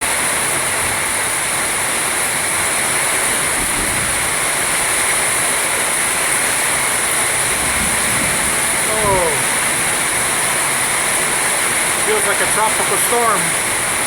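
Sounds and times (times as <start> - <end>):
heavy rain in wind: 0.0 - 14.0.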